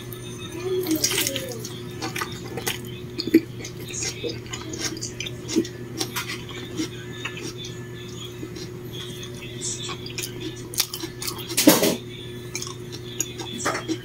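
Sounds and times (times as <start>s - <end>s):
kitchen utensils and dishes clinking: 0.0s - 7.7s, 10.0s - 14.0s
steady low hum: 0.0s - 14.0s.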